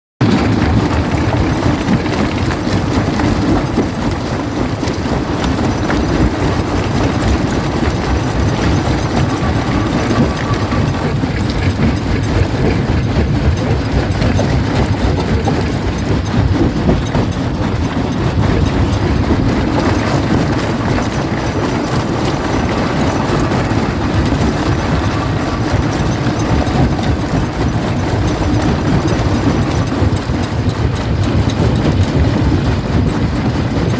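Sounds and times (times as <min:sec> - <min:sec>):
rock crusher rumbling: 0:00.2 - 0:33.9.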